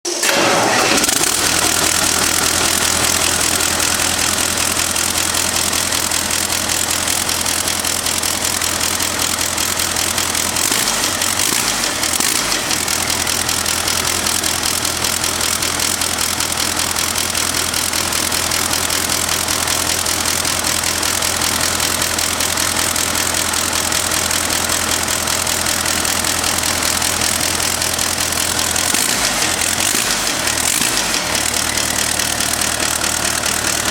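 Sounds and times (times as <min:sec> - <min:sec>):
diesel engine droning: 0:00.1 - 0:33.9.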